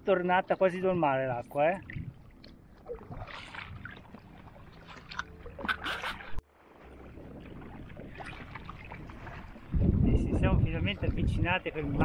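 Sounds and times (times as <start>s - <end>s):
kayak paddles splashing: 0.2s - 12.0s
water washing: 1.6s - 12.0s.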